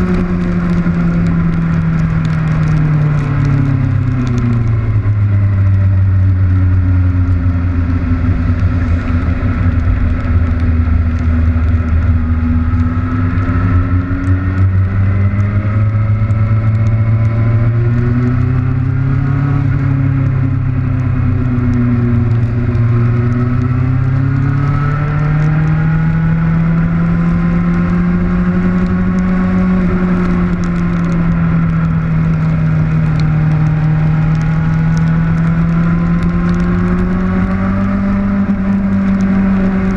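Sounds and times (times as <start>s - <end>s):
motorcycle engine running: 0.0s - 39.9s
wind and rain on camera: 0.0s - 39.9s.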